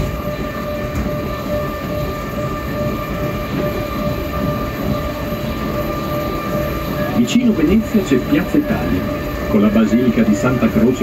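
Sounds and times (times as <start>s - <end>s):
steady whine: 0.0s - 11.0s
train rumble: 0.0s - 11.0s.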